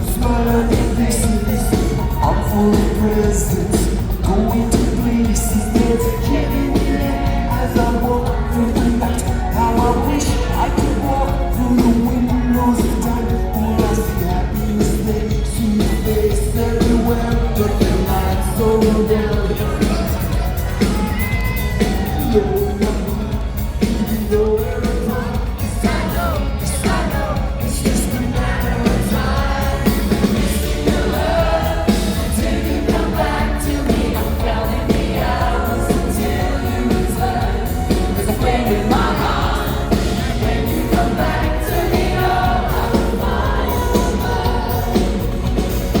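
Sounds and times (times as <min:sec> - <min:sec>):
band playing pop song: 0:00.0 - 0:46.0
man singing: 0:00.0 - 0:46.0.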